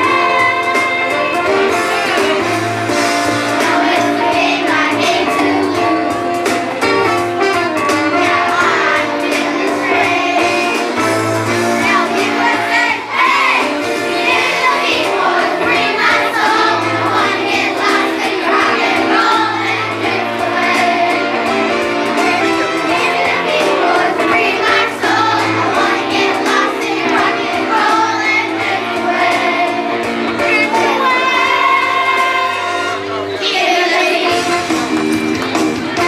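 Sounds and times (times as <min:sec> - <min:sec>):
children's chorus singing: 0:00.0 - 0:34.8
instrumental accompaniment with bass: 0:00.0 - 0:36.0.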